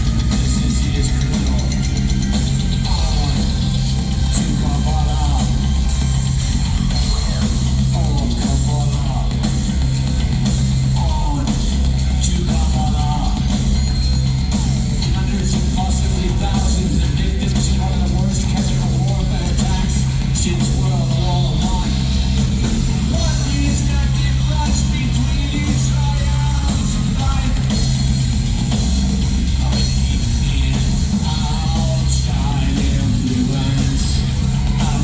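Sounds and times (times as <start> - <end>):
industrial band bass and drums: 0.0 - 35.0
processed voice: 0.0 - 35.0.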